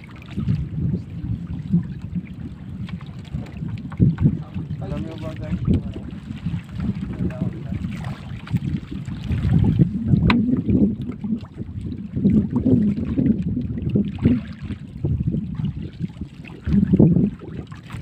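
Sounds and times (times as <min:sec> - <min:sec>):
water slapping against boat hull: 0:00.0 - 0:18.0
wind buffeting microphone: 0:00.0 - 0:18.0.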